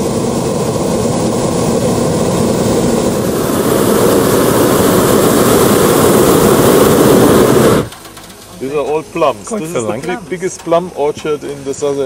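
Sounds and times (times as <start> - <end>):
propane burner blast: 0.0 - 12.0.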